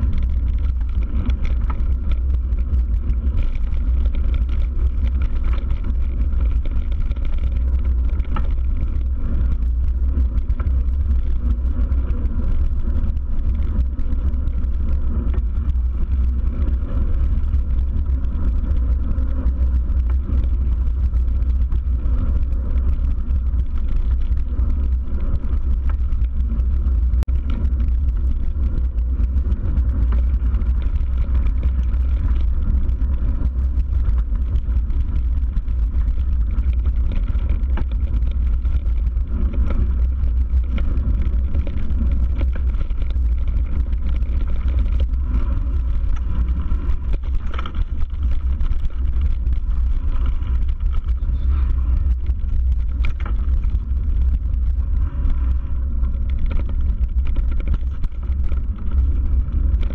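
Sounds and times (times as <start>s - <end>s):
loud low rumble: 0.0s - 59.9s.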